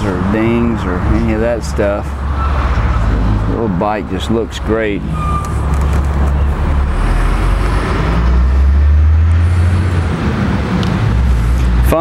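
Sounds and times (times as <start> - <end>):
low engine rumble: 0.0 - 12.0
road noise: 0.0 - 12.0.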